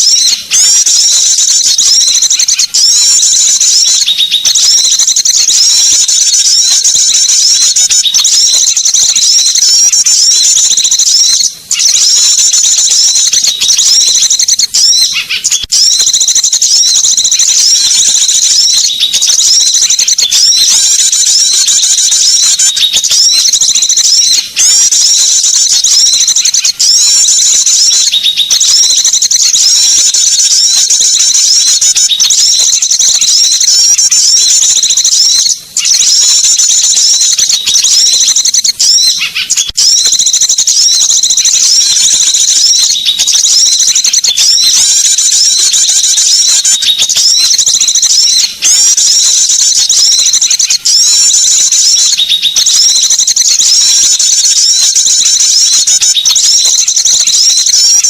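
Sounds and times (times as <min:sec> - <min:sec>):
songbirds twittering and chirping: 0:00.0 - 0:58.0.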